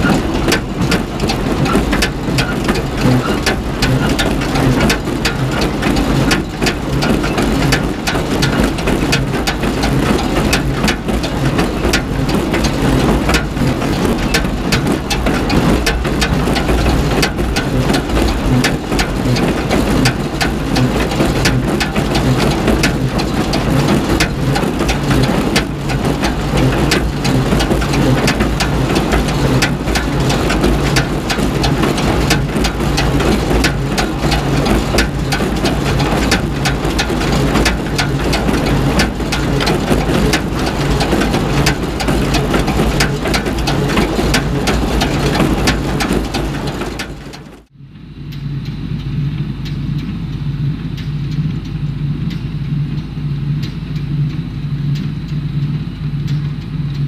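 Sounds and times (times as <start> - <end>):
hay baler clattering: 0.0 - 47.7
tractor engine hum: 0.0 - 57.0.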